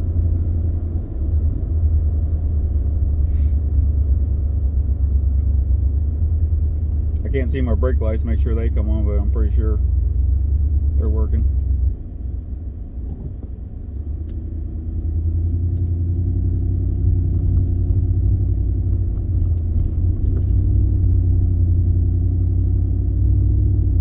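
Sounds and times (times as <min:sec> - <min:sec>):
road noise inside cab: 0:00.0 - 0:24.0
truck engine running: 0:00.0 - 0:24.0.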